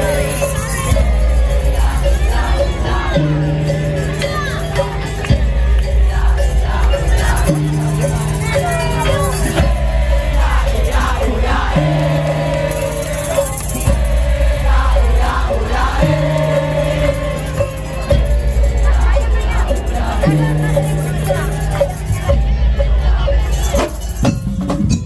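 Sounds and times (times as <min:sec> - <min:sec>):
crowd shouting and whooping: 0:00.0 - 0:24.5
street band music with bass notes: 0:00.0 - 0:25.0.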